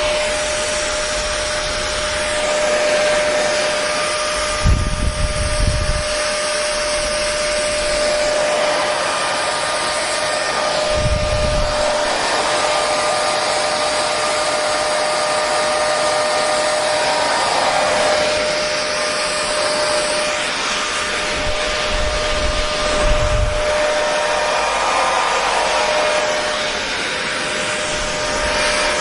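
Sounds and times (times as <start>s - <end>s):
hair dryer running: 0.0s - 29.0s.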